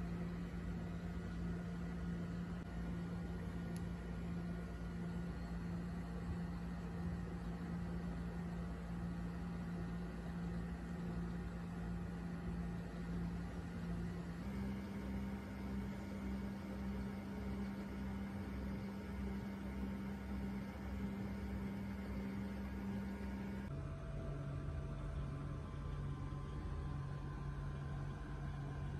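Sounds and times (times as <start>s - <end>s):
faint steady tones: 0.0s - 28.9s
low hum: 0.0s - 28.9s.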